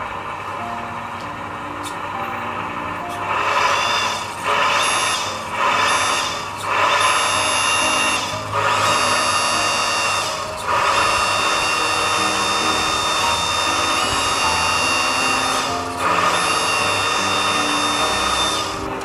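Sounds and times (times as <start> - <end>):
electric hydraulic pump whining: 0.0 - 19.0.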